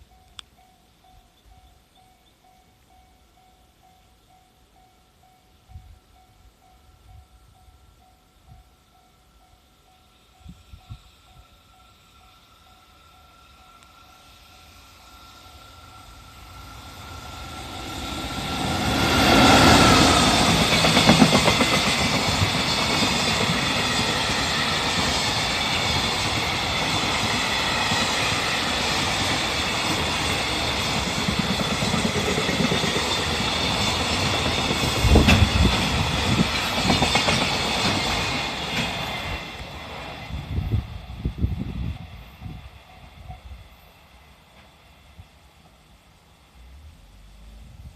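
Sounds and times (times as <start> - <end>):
electric locomotive passing: 0.0 - 47.9.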